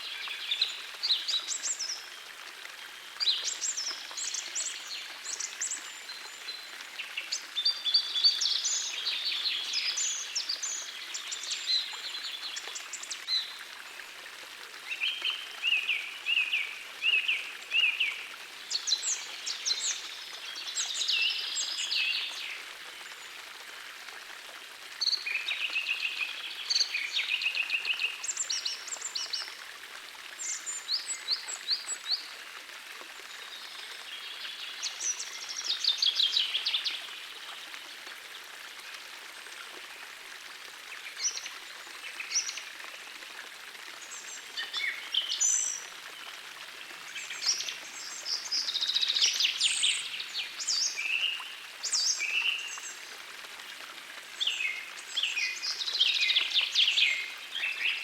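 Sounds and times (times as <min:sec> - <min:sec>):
small stream rushing: 0:00.0 - 0:58.0.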